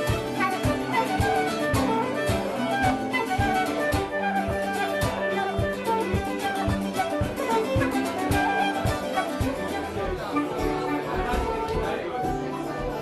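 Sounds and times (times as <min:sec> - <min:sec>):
fiddle playing quick tune: 0:00.0 - 0:13.0.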